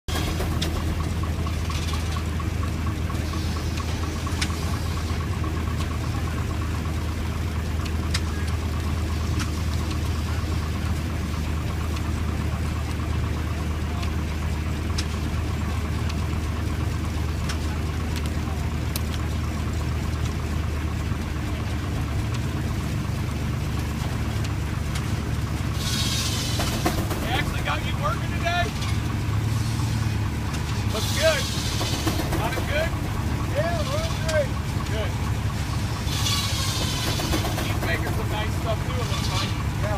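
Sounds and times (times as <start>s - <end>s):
steam traction engine running: 0.0s - 39.9s.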